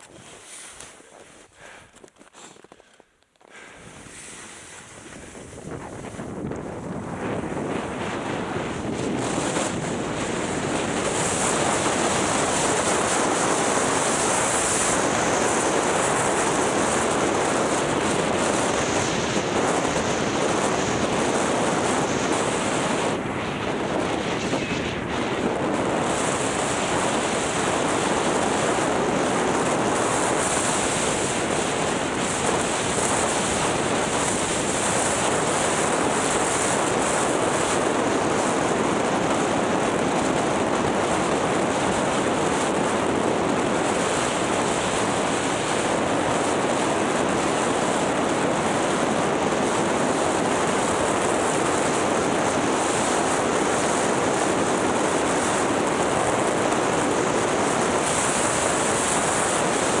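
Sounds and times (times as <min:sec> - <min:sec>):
skis gliding over packed snow: 0:00.0 - 1:00.0
wind rushing over microphone: 0:00.0 - 1:00.0.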